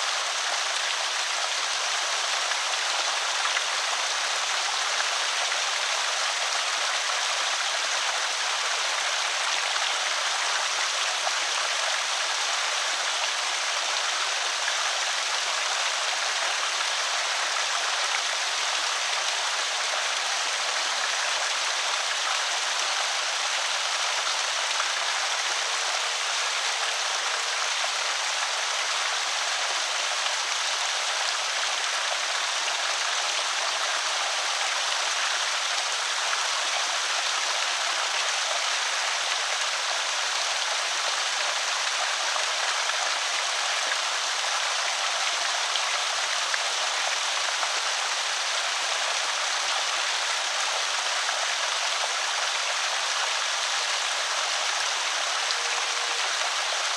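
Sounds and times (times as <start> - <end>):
water pouring over spillway: 0.0 - 56.9.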